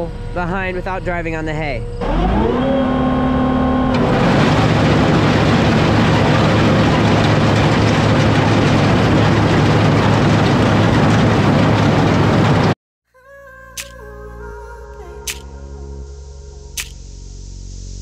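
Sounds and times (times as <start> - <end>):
machine drive whine and hum: 0.0 - 12.8, 13.6 - 18.0.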